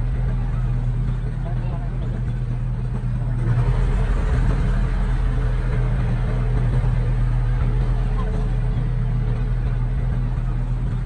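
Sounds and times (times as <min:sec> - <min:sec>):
construction machinery diesel engine: 0:00.0 - 0:11.0.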